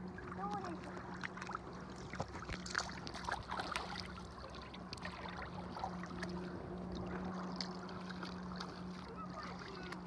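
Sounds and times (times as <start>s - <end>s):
boat motor humming: 0.0s - 10.0s
water trickling and splashing: 0.0s - 10.0s.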